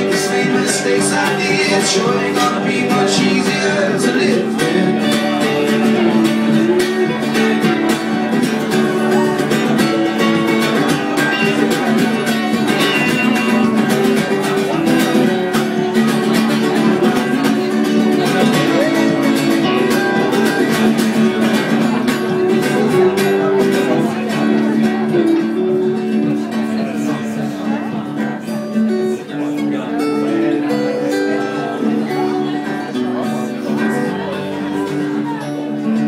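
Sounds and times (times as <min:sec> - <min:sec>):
live pop-folk instrumental music: 0:00.0 - 0:36.0
strummed guitar: 0:00.0 - 0:36.0.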